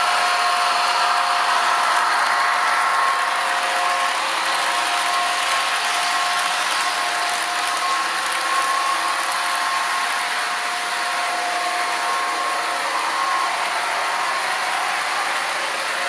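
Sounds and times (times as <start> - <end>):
thin whine: 0.0 - 16.0.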